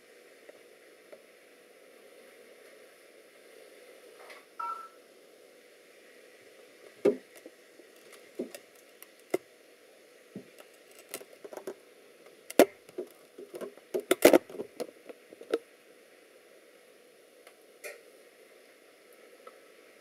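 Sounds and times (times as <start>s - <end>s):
faint room noise: 0.0s - 20.0s.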